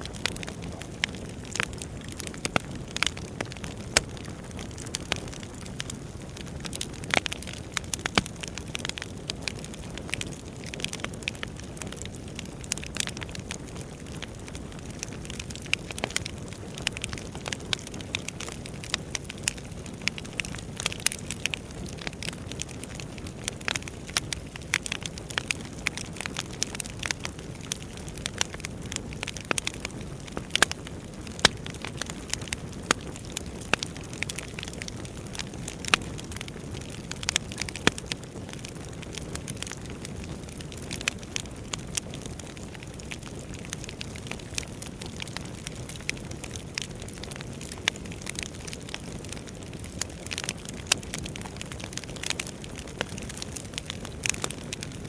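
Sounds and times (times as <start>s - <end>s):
fire low rumble: 0.0s - 55.0s
wood fire crackling: 0.0s - 55.0s.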